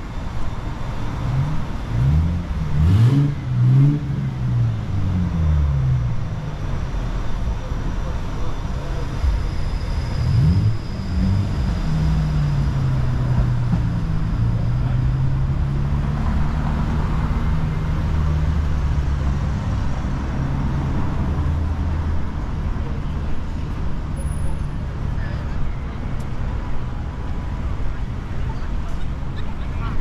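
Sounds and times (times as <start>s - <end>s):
low engine hum: 0.0s - 30.0s
street traffic noise: 0.0s - 30.0s
vehicle engine revving: 0.8s - 24.9s.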